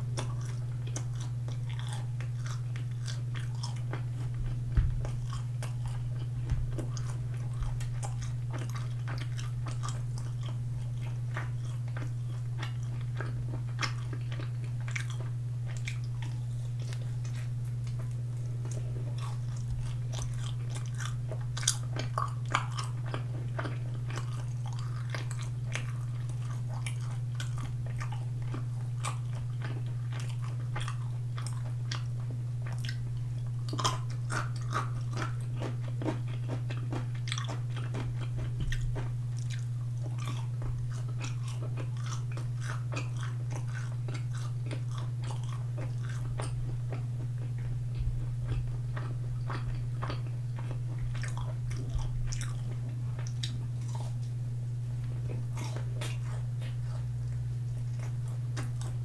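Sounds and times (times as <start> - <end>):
chewing and crunching food: 0.0 - 59.0
steady low hum: 0.0 - 59.0.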